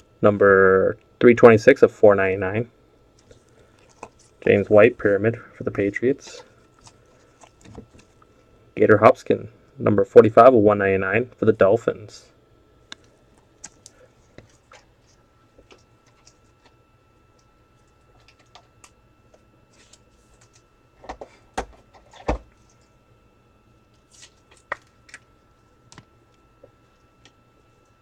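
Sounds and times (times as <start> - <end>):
faint steady whine: 0.0 - 28.0.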